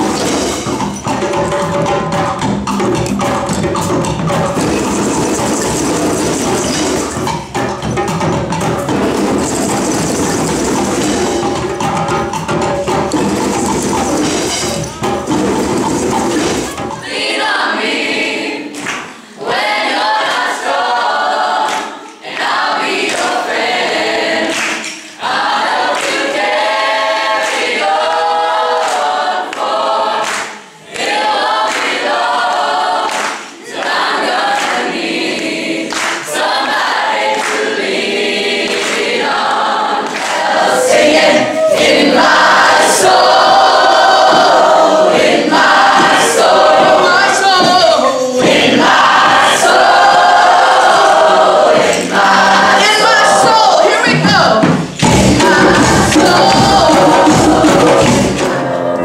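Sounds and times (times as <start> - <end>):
choir singing: 3.2 - 59.0.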